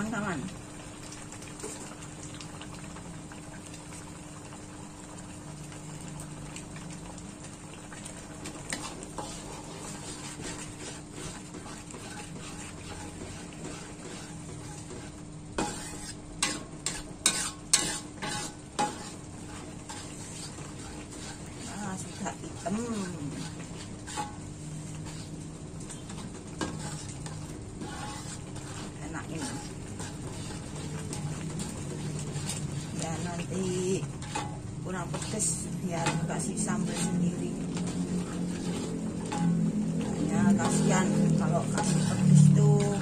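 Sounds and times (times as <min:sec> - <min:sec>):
sauce sizzling in a wok: 0:00.0 - 0:43.0
spatula scraping and knocking wok: 0:08.3 - 0:43.0.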